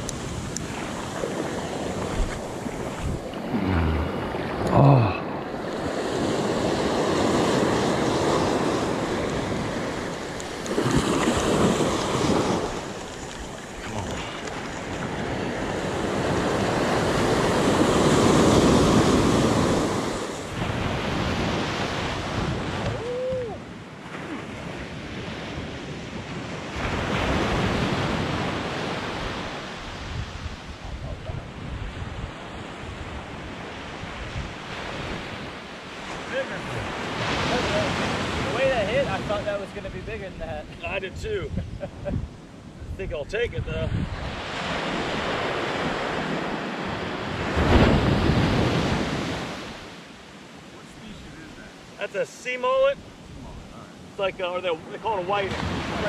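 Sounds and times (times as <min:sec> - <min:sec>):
wind buffeting microphone: 0:00.0 - 0:23.9, 0:24.6 - 0:49.9
ocean surf breaking: 0:00.0 - 0:43.2, 0:43.8 - 0:56.0.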